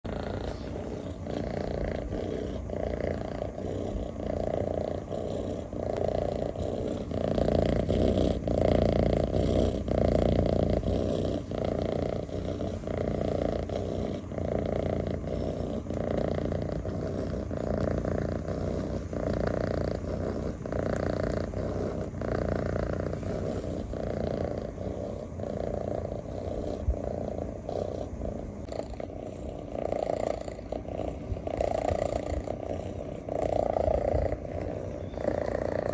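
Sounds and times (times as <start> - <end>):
cat purring loudly: 0.0 - 35.9.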